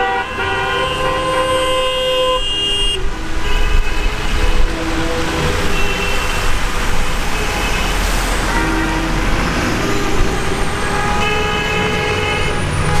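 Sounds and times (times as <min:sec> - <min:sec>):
car horns honking: 0:00.0 - 0:13.0
road traffic: 0:00.0 - 0:13.0.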